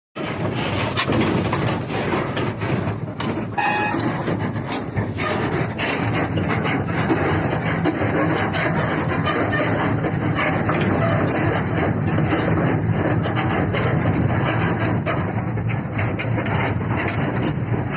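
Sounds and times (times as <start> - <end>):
excavator diesel engine running: 0.2 - 17.9
metal clanks and rattles: 0.2 - 17.9.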